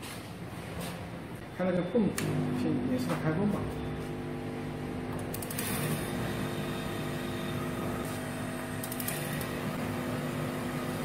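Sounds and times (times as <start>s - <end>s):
electric pump humming: 1.8s - 11.0s.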